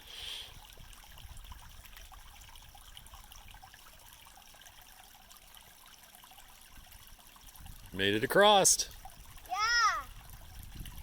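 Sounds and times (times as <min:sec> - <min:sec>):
creek water trickling over stones: 0:00.0 - 0:11.0.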